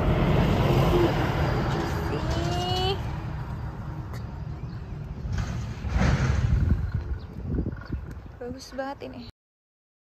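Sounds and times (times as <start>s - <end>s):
low outdoor rumble: 0.0s - 9.3s.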